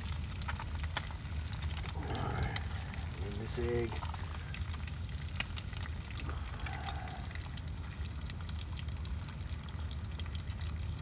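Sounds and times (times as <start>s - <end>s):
eggs and bacon sizzling: 0.0s - 11.0s.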